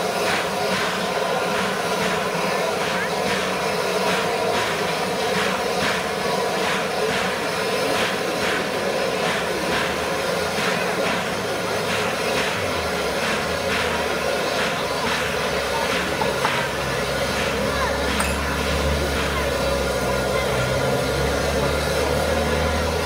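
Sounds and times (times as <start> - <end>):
steam train running: 0.0 - 23.0.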